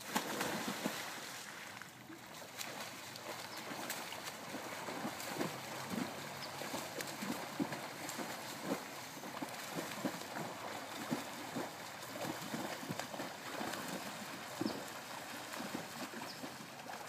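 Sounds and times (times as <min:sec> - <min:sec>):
swimming strokes splashing: 0:00.0 - 0:17.0
swimmers diving into pool: 0:02.4 - 0:17.0.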